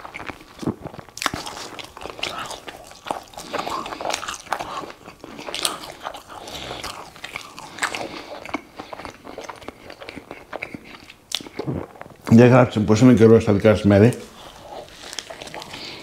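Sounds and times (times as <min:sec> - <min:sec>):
person chewing food: 0:00.0 - 0:12.3, 0:14.2 - 0:16.0.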